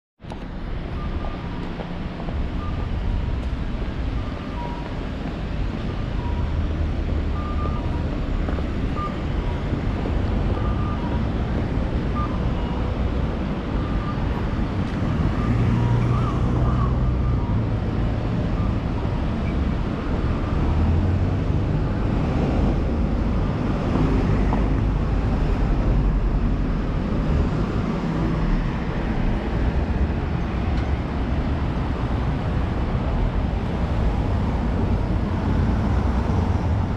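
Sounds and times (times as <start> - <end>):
road traffic rumble: 0.2 - 36.9.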